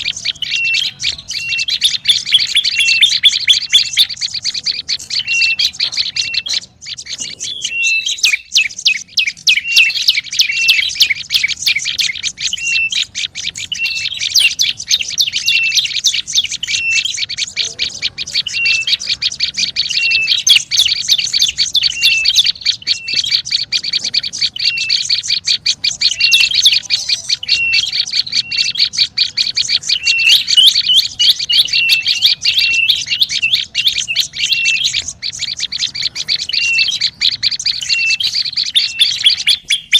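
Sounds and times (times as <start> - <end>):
birds chattering rapidly: 0.0 - 39.9.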